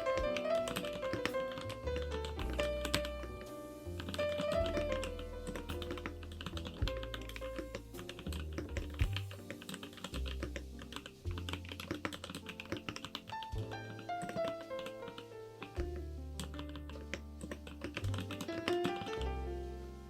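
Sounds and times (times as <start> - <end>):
mechanical keyboard typing: 0.0 - 3.4, 4.0 - 15.7, 16.4 - 19.2
background music: 0.0 - 20.0.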